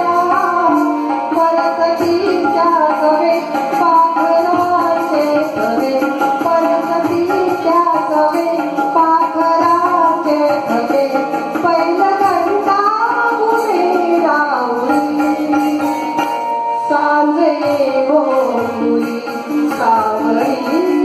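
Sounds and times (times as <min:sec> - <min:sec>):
instrumental accompaniment: 0:00.0 - 0:21.0
woman singing into microphone: 0:00.0 - 0:21.0.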